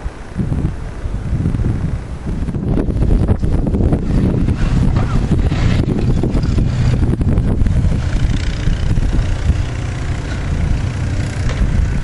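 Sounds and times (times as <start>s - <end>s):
low vehicle rumble: 0.0s - 12.0s
wind buffeting microphone: 0.0s - 12.0s.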